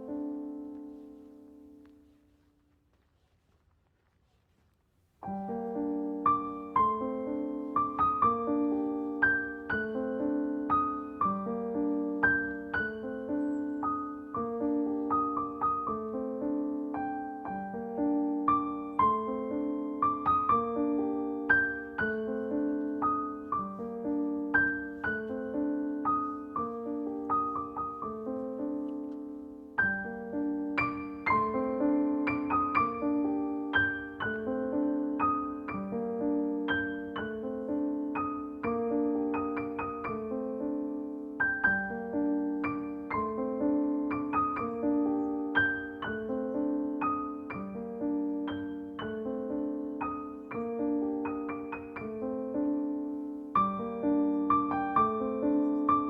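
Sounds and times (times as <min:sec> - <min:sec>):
gentle piano music: 0:00.0 - 0:02.2, 0:05.2 - 0:56.0.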